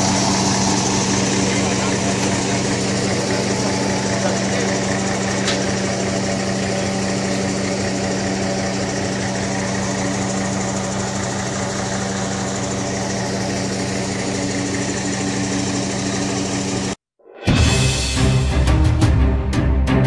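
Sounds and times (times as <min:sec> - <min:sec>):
machine engine humming: 0:00.0 - 0:17.0.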